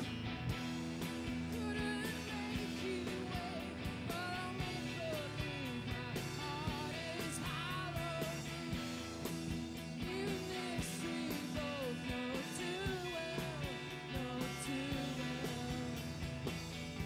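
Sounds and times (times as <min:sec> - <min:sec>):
electric guitar: 0:00.0 - 0:17.0
steady drum beat: 0:00.0 - 0:17.0
person singing: 0:01.5 - 0:09.2, 0:10.0 - 0:16.2.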